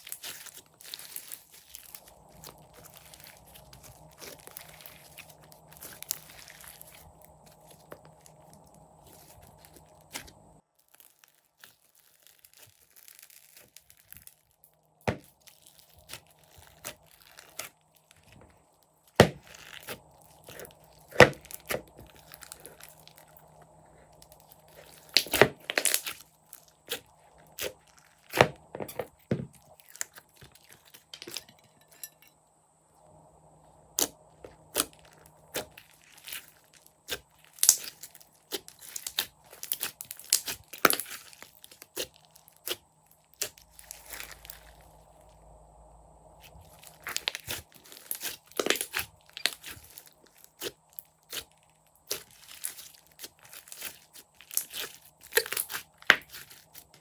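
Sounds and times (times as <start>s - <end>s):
slime squishing and crackling: 0.0s - 31.6s, 33.9s - 45.4s, 46.4s - 57.0s.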